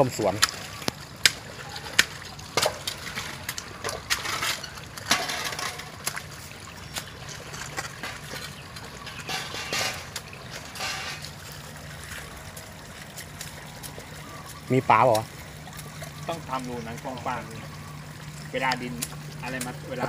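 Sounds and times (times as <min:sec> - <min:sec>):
short splashes: 0:00.0 - 0:20.0
water trickling and sloshing: 0:00.0 - 0:20.0.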